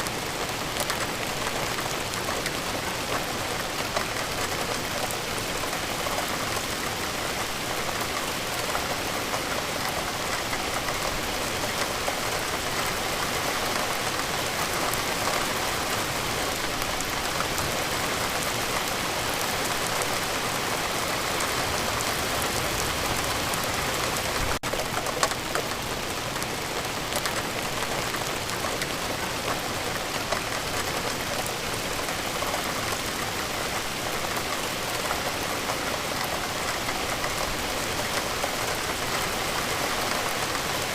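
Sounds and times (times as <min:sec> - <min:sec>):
raindrops pattering: 0:00.0 - 0:40.9
steady rainfall: 0:00.0 - 0:40.9.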